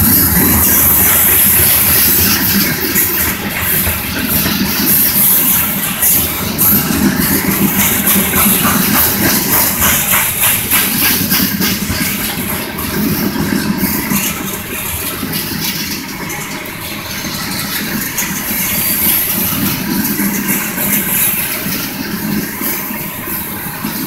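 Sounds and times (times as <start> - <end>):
train wheels rumbling on rail: 0.0 - 24.0
wheels clicking over rail joints: 0.0 - 24.0.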